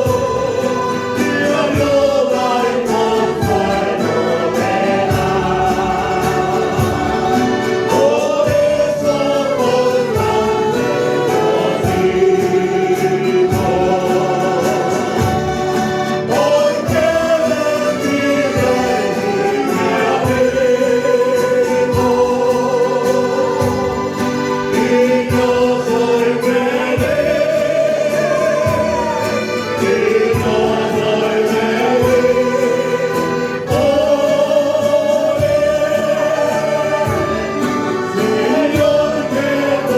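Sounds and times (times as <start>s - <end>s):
accompaniment with steady beat: 0.0s - 39.9s
choir singing a hymn: 0.0s - 39.9s.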